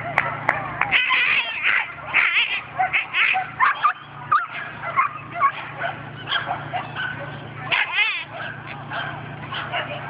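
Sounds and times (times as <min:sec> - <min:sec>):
dog yipping and barking: 0:00.9 - 0:10.0.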